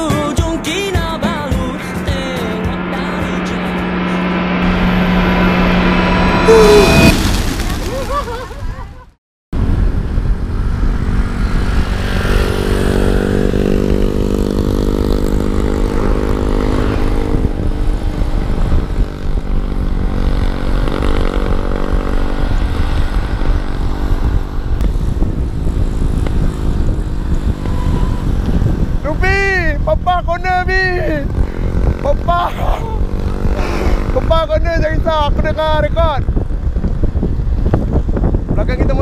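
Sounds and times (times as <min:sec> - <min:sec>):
motor vehicle engine: 0:00.0 - 0:39.0
wind rumble on microphone: 0:00.0 - 0:39.0.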